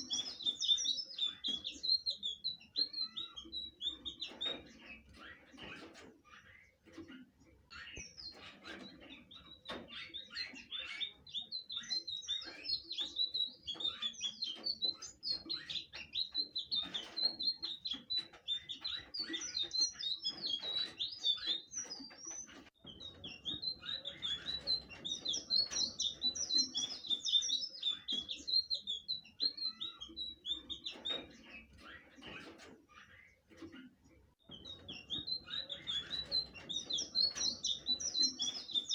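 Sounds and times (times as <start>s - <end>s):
bird twittering chirps and trills: 0.0s - 38.9s.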